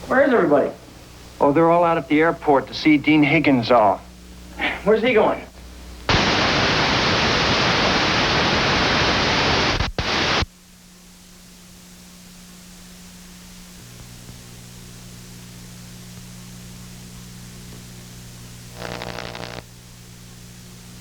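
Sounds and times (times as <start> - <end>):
low electrical hum: 0.0 - 21.0
television static hiss: 0.0 - 21.0.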